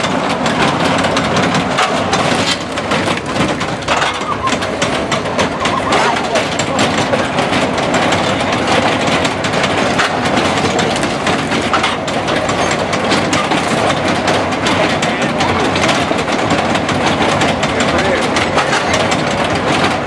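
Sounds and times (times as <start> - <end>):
treadmill gearing clattering: 0.0 - 20.0.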